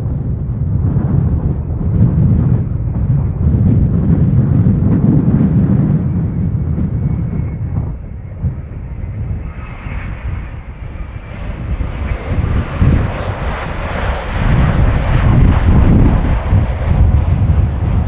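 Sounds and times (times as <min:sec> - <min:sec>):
jet engine rumble with whine: 0:00.0 - 0:18.0
wind buffeting microphone: 0:00.0 - 0:18.0.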